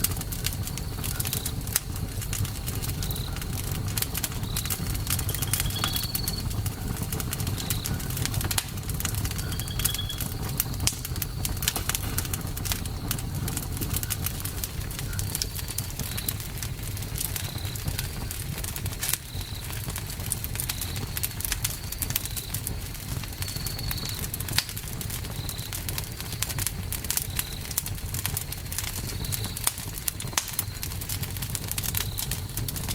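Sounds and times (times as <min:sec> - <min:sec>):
low rumble of flames: 0:00.0 - 0:32.9
wood crackling and popping: 0:00.0 - 0:32.9.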